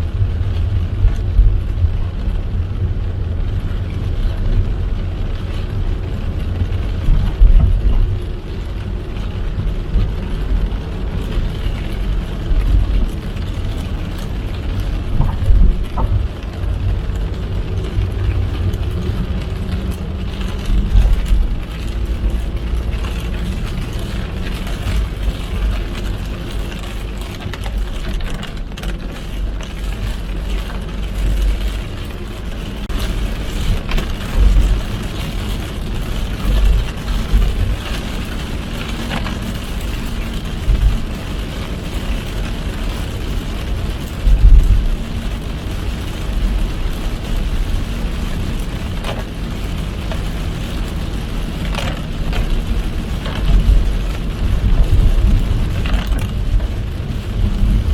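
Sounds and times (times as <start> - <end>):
rain and wet tyre hiss: 0.0 - 57.9
road and engine rumble: 0.0 - 57.9.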